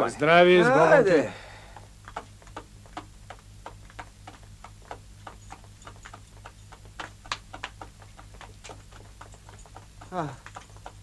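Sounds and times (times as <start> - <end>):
steady low hum: 0.0 - 11.0
horse hooves on hard ground: 1.5 - 11.0
footsteps on hard ground: 1.9 - 11.0.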